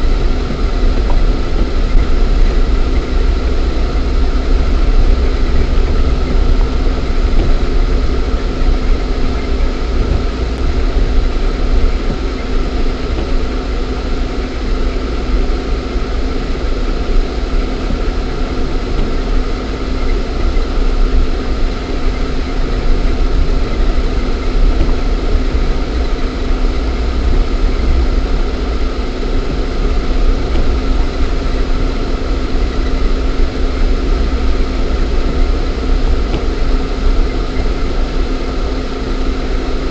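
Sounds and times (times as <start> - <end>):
car engine rumbling inside cabin: 0.0 - 39.9.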